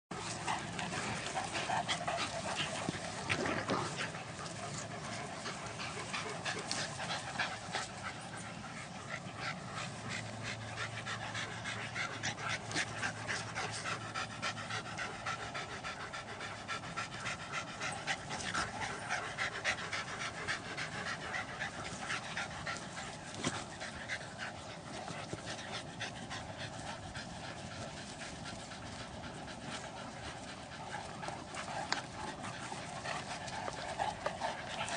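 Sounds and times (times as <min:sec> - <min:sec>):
dogs panting: 0:00.1 - 0:34.9.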